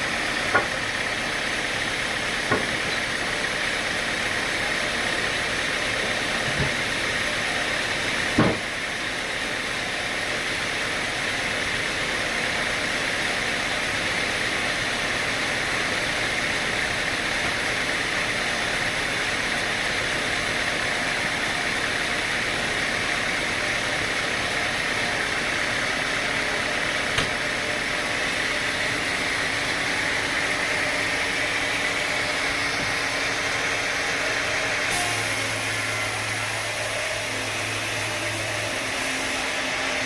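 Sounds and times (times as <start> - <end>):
sawmill machinery drone: 0.0 - 40.0.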